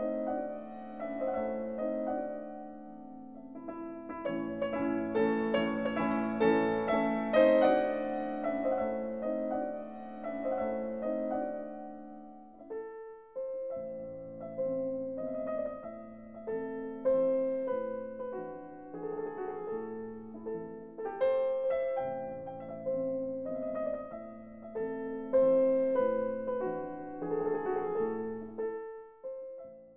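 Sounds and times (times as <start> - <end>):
slow piano music: 0.0 - 29.9.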